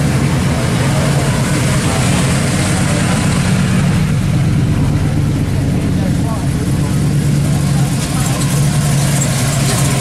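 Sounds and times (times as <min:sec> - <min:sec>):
car engines driving slowly past: 0:00.0 - 0:10.0.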